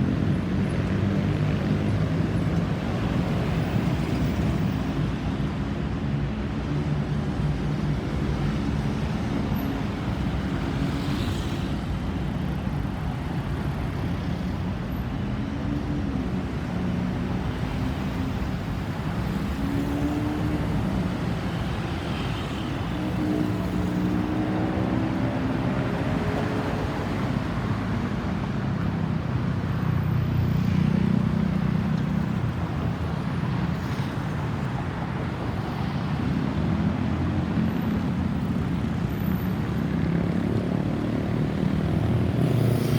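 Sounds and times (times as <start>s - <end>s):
vehicle engines and tyres rumbling: 0.0s - 42.9s.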